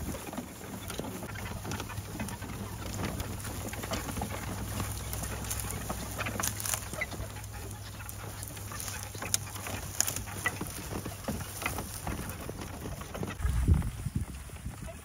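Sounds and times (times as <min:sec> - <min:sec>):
cart clicking and rattling: 0:00.0 - 0:15.0
hoof thuds on grass: 0:00.0 - 0:15.0.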